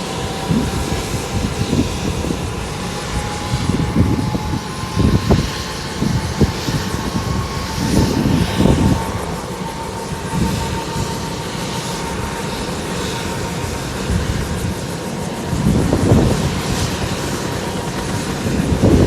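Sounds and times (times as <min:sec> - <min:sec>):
helicopter engine whine: 0:00.0 - 0:19.0
helicopter rotor thumping: 0:00.0 - 0:19.0.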